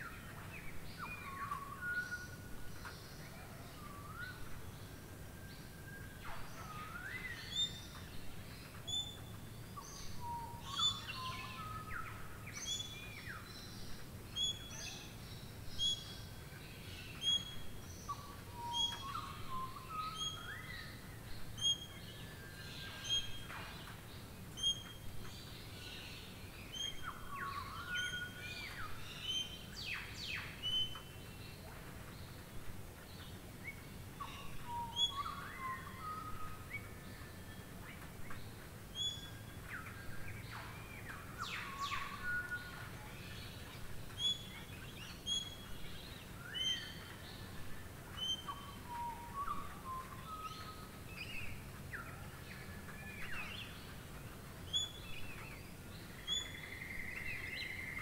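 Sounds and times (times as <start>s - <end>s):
birds giving rising and falling calls: 0.0s - 58.0s.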